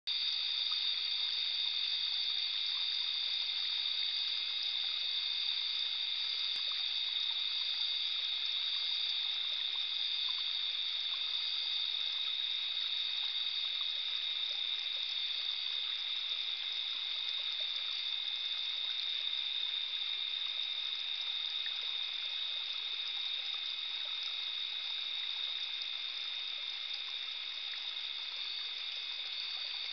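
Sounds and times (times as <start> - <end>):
stream trickling: 0.1 - 29.9.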